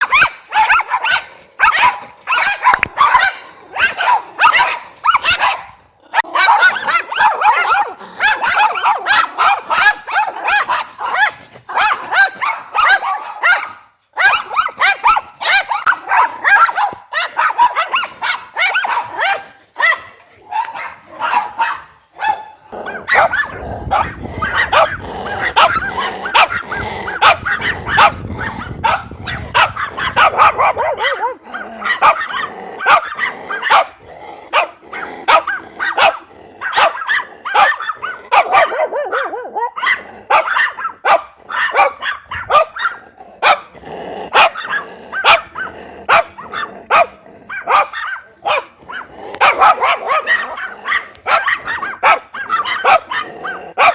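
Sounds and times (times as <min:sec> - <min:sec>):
dogs barking: 0:00.0 - 0:53.9
dogs growling and yipping: 0:00.0 - 0:53.9.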